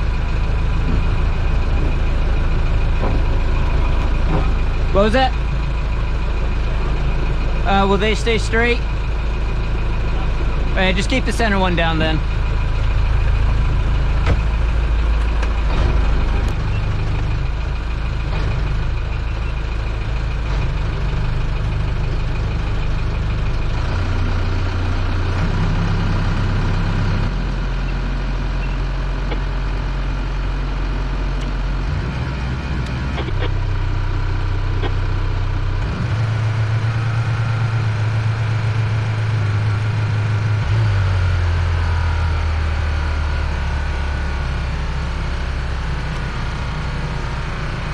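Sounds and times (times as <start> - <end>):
boat engine running under load: 0.0 - 47.9.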